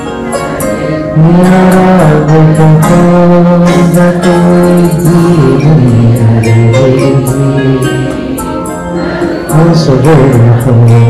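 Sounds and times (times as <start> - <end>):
instrumental hymn accompaniment: 0.0 - 11.0.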